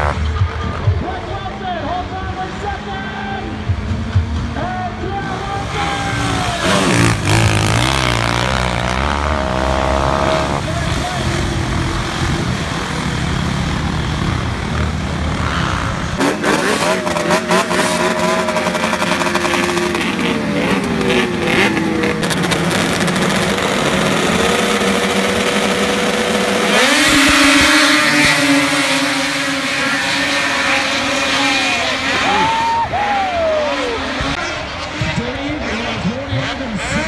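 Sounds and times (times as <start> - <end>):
snowmobile engines revving high: 0.0 - 37.0.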